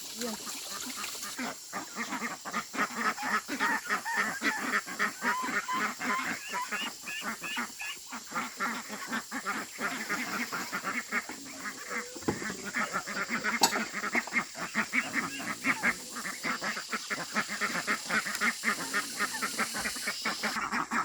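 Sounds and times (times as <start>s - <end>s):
waterfowl honking and quacking: 0.5s - 21.0s.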